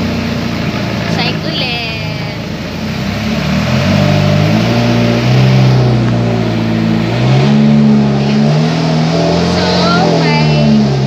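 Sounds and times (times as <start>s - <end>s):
motorboat engine revving: 0.0s - 11.0s.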